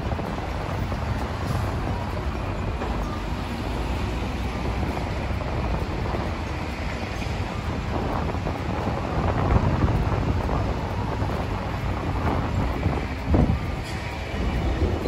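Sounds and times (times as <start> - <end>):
street traffic rumble: 0.0 - 15.0
wind buffeting microphone: 0.0 - 15.0.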